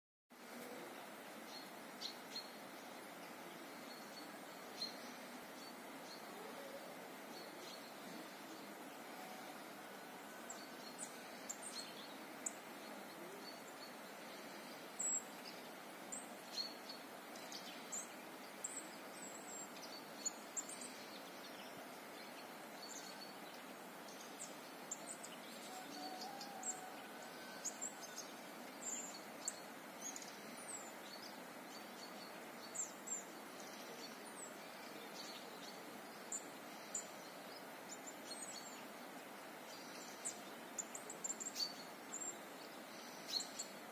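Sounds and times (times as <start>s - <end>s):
steady faint hiss: 0.3s - 43.9s
small birds chirping: 0.4s - 43.9s.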